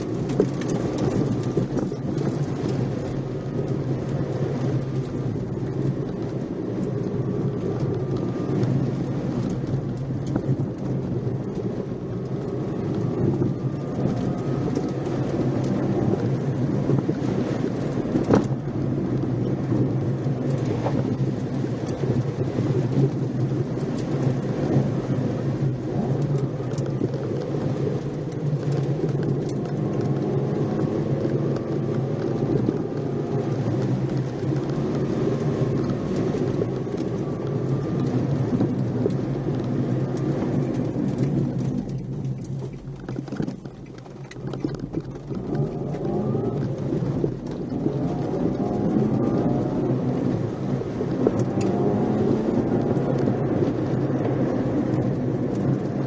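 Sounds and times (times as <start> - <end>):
car engine while driving: 0.0 - 56.0
tyre and road noise: 0.0 - 56.0.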